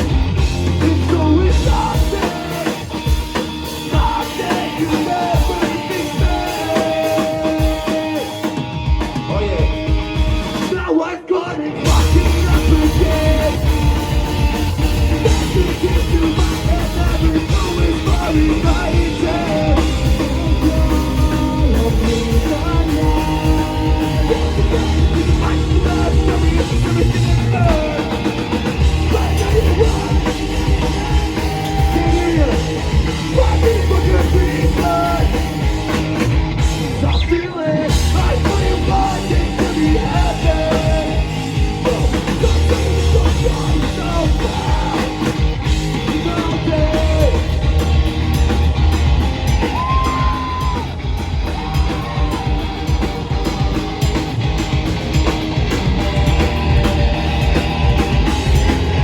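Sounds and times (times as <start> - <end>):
drum kit: 0.0 - 11.0, 11.8 - 59.0
live rock band playing: 0.0 - 59.0.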